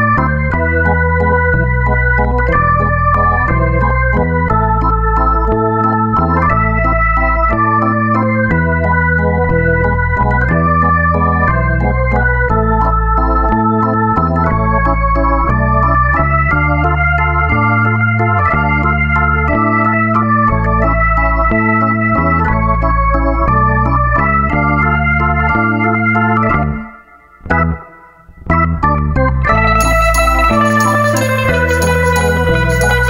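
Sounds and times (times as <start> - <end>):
bass line: 0.0 - 33.0
organ chords: 0.0 - 33.0.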